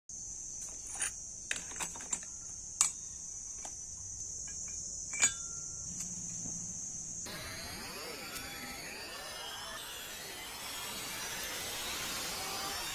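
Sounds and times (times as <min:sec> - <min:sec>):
crickets droning: 0:00.1 - 0:12.9.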